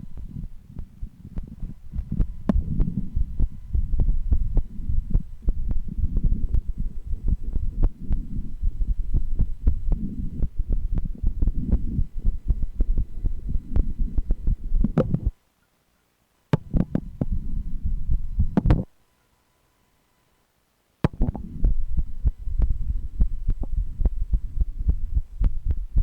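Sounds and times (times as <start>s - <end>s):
heartbeat through stethoscope: 0.0s - 15.4s, 16.6s - 18.9s, 21.1s - 26.0s
stethoscope rumbling against skin: 0.2s - 15.3s, 16.6s - 18.9s, 21.1s - 26.0s.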